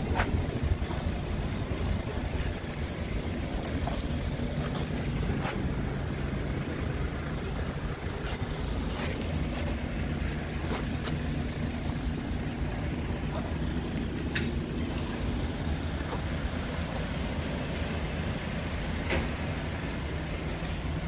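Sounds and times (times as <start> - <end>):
wind buffeting microphone: 0.0 - 17.2
diesel truck engine idling: 0.0 - 21.0.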